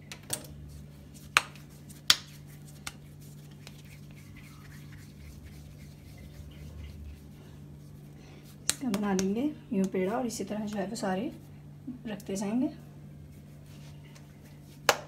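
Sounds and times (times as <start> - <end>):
low steady hum: 0.0 - 15.0
hands rubbing dough: 0.5 - 11.5, 13.2 - 15.0.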